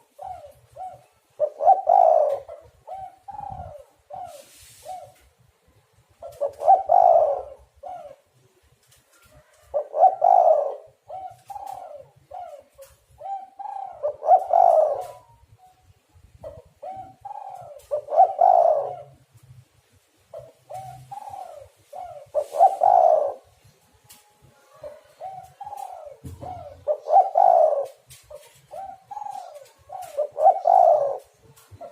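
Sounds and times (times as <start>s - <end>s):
dove cooing: 0.0s - 5.3s, 6.2s - 15.5s, 16.2s - 19.6s, 20.2s - 31.9s.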